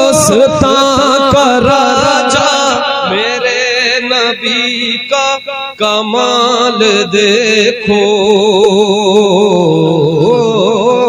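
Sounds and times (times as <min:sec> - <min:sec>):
humming vocal backing: 0:00.0 - 0:11.0
person singing: 0:00.0 - 0:11.0.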